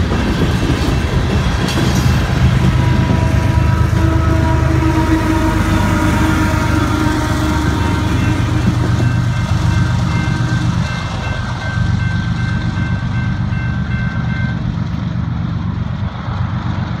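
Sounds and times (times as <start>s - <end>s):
diesel locomotive engine rumble: 0.0s - 17.0s
train wheels rolling: 0.0s - 17.0s.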